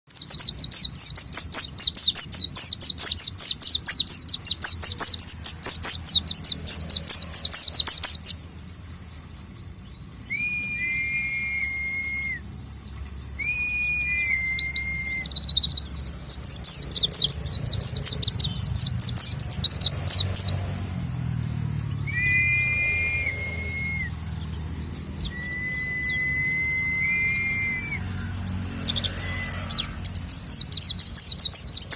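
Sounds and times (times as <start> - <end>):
bird twittering song: 0.1 - 31.9.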